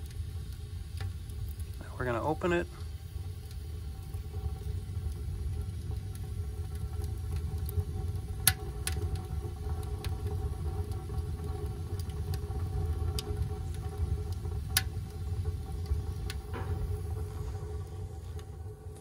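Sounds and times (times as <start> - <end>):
crackling wood pops: 0.0 - 19.0
wood fire low rumble: 0.0 - 19.0.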